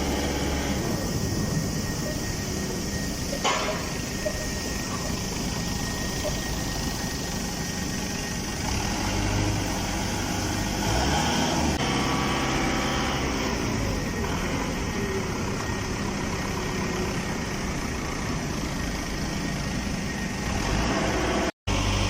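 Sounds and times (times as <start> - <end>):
industrial machinery humming: 0.0 - 22.0.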